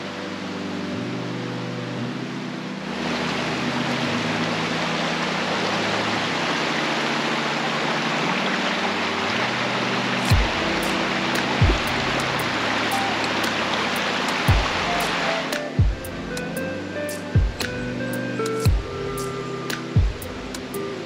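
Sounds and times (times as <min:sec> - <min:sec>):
soft background music: 0:00.0 - 0:21.0
stream rushing over stones: 0:00.0 - 0:21.0.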